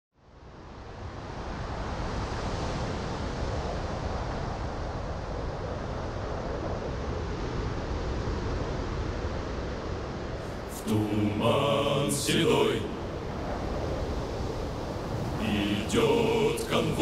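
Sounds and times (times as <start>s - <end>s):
heavy sea waves: 0.4s - 17.0s
wind rushing: 1.6s - 17.0s.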